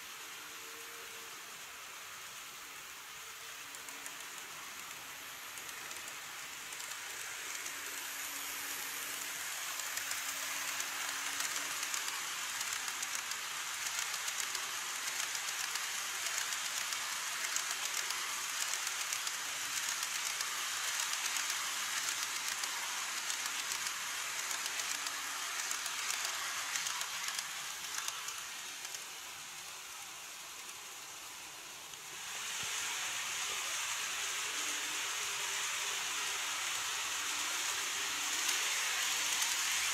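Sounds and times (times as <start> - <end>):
model train wheels rushing hiss: 0.0 - 39.9
steady hiss: 0.0 - 39.9.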